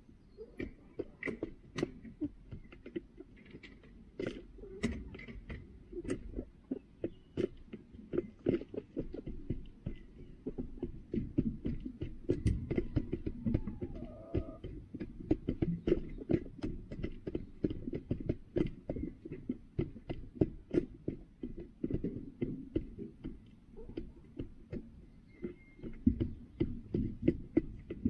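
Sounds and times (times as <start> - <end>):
hens pecking plastic feeder: 0.0 - 28.0.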